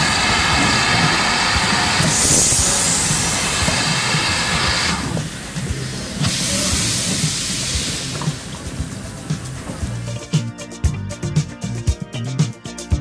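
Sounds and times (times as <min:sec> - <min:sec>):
steam locomotive hissing: 0:00.0 - 0:10.5.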